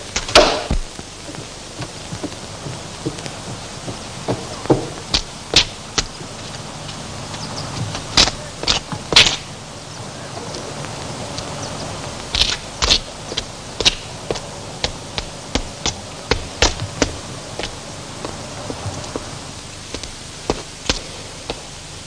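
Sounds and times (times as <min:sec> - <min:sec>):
footsteps on wooden stairs: 0:00.0 - 0:09.4, 0:12.3 - 0:21.7
steady hiss: 0:00.0 - 0:22.0.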